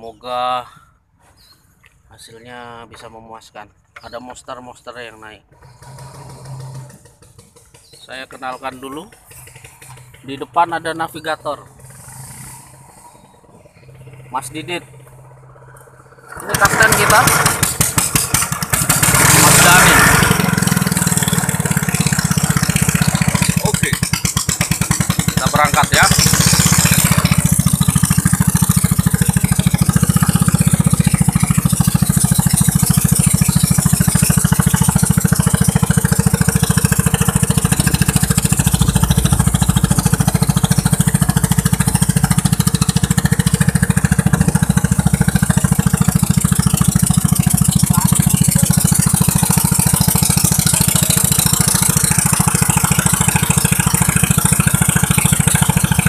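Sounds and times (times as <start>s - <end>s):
boat engine running: 5.5s - 56.0s.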